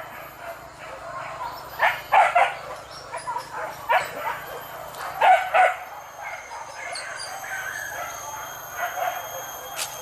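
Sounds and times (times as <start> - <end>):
dogs barking and yelping: 0.0 - 10.0.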